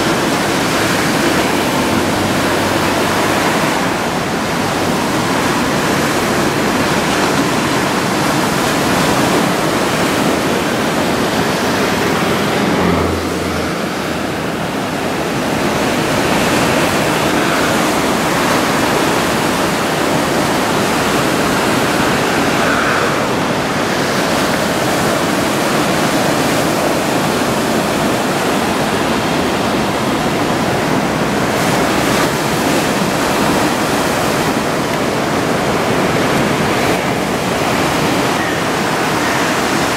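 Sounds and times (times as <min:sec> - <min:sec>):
surf breaking on shore: 0:00.0 - 0:39.9.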